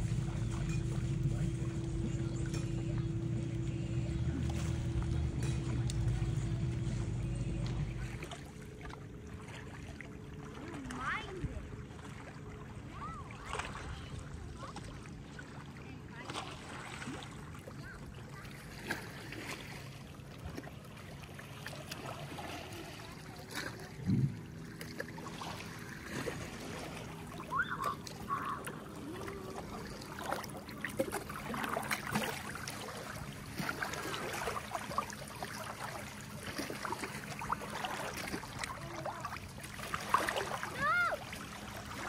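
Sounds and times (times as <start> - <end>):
small water splashes: 0.0 - 42.0
water lapping around paddleboard: 0.0 - 42.0.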